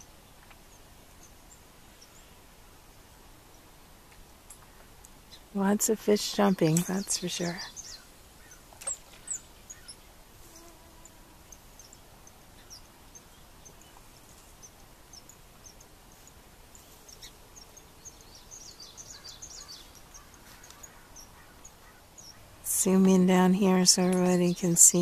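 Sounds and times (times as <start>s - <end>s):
low outdoor hiss: 0.0s - 25.0s
small birds chirping: 0.0s - 25.0s.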